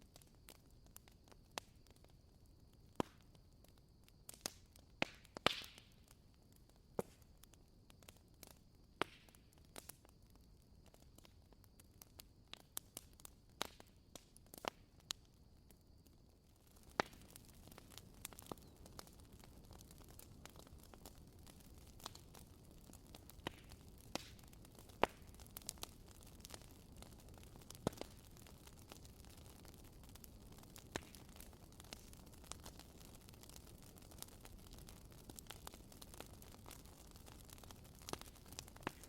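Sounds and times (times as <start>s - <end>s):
firewood crackling and popping: 0.0s - 39.0s.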